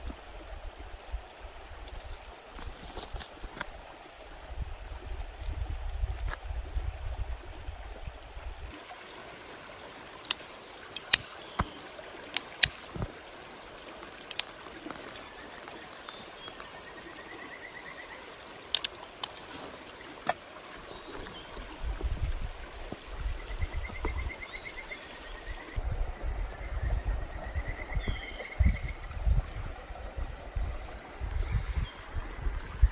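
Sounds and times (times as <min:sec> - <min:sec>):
stream water running: 0:00.0 - 0:32.9.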